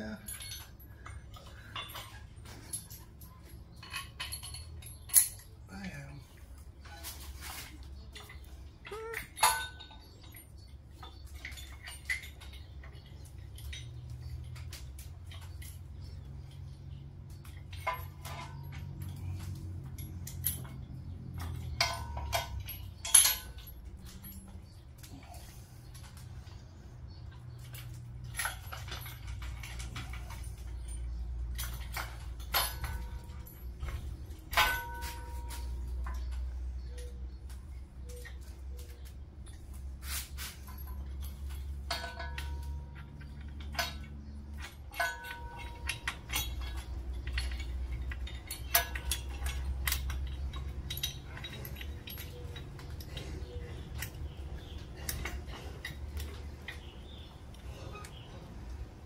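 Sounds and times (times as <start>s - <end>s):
metal tools clinking: 0.0s - 59.0s.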